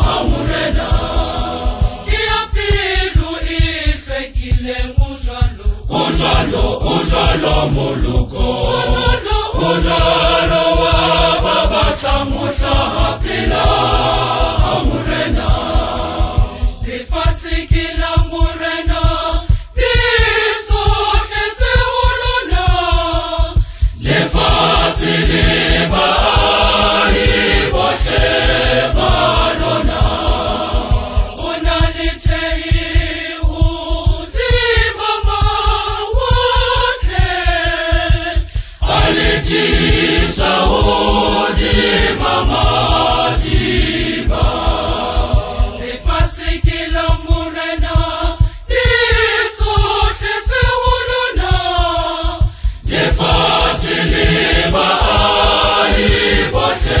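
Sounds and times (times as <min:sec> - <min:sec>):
choir singing in harmony: 0:00.0 - 0:57.0
steady beat: 0:00.0 - 0:57.0.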